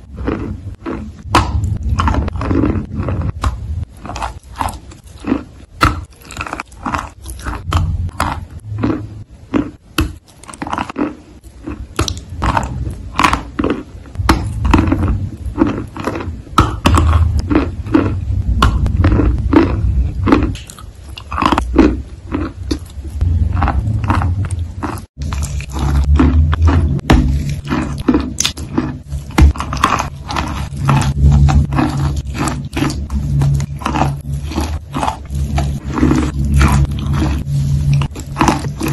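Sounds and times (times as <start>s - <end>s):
crisp bites and crunches: 0.0s - 38.9s.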